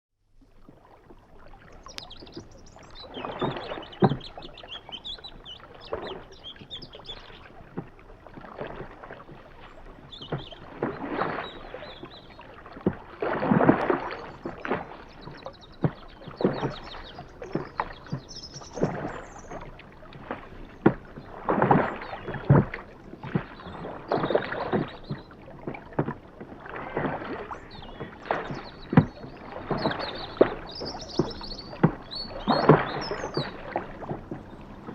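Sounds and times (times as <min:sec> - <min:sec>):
oars splashing through water: 0:00.3 - 0:34.9.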